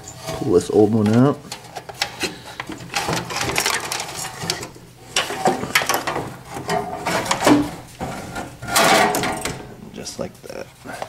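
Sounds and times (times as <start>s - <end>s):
knocks scrapes and clatter: 0.0s - 11.0s.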